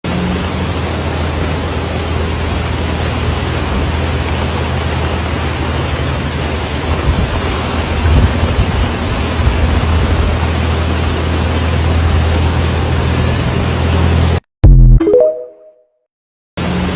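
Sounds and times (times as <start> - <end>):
water rushing: 0.0 - 14.4.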